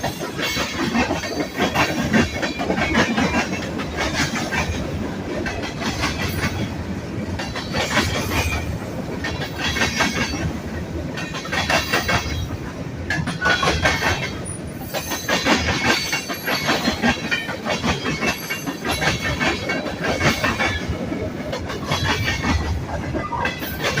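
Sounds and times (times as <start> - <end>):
train rumble: 0.0 - 24.0
train wheels clacking over rail joints: 0.0 - 24.0.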